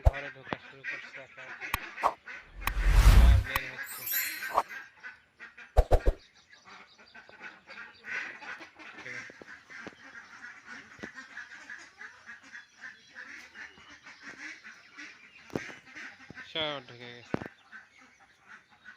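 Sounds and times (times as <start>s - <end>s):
ducks quacking: 0.0s - 4.0s, 4.8s - 18.9s.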